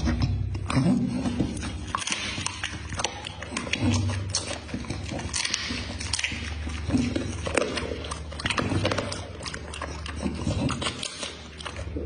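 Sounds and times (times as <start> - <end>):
dog chewing with wet smacking: 0.0 - 12.0.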